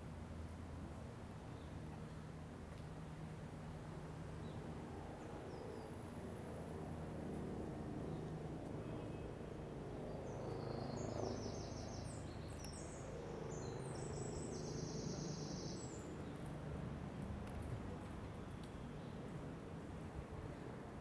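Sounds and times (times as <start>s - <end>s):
low hum of city noise: 0.0s - 21.0s.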